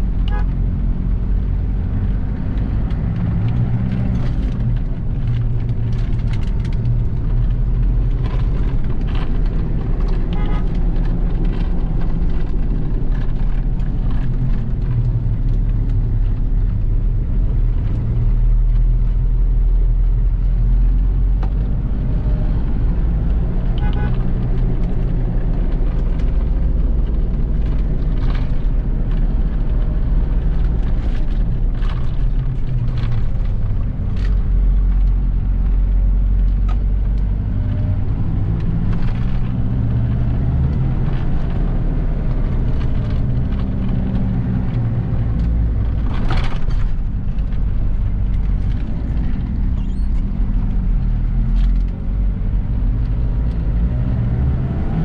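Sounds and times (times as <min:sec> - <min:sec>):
diesel engine rumbling while driving: 0:00.0 - 0:55.0.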